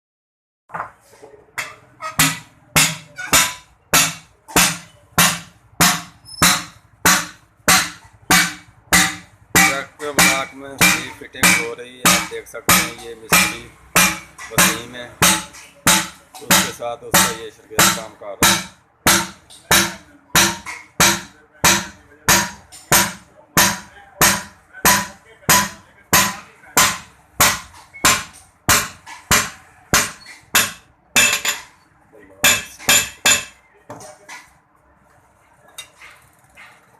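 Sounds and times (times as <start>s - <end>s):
ringing hammer blows on metal: 2.0s - 31.7s.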